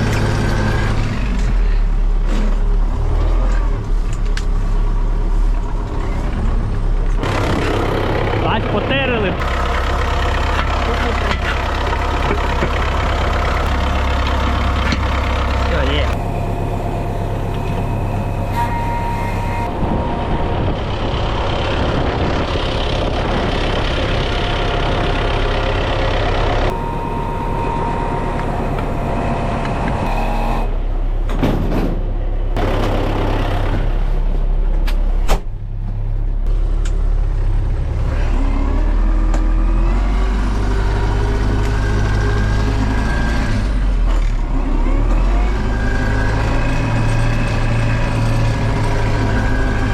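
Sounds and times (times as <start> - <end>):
tractor engine under load: 0.0 - 49.9.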